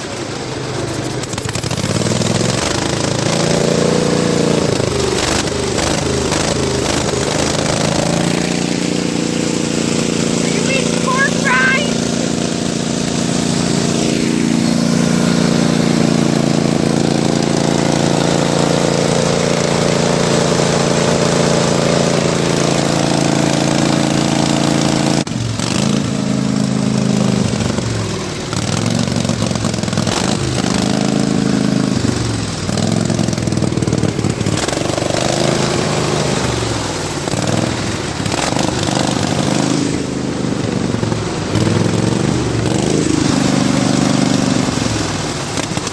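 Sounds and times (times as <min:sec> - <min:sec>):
riding lawn mower engine: 0:00.0 - 0:45.9.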